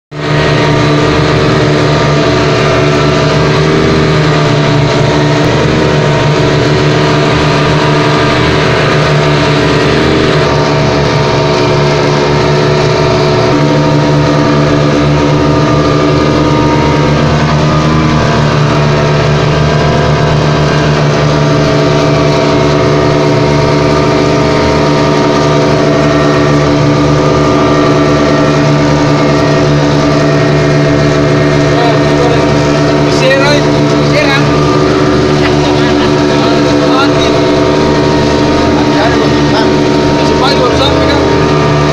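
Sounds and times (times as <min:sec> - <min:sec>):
speedboat engine droning: 0:00.1 - 0:41.9.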